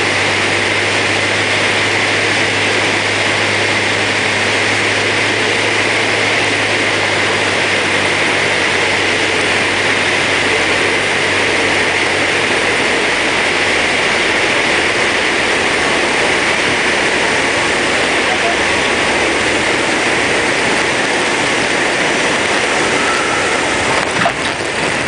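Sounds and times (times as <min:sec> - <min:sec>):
aircraft engine and propeller drone: 0:00.0 - 0:25.0
rushing airflow: 0:00.0 - 0:25.0.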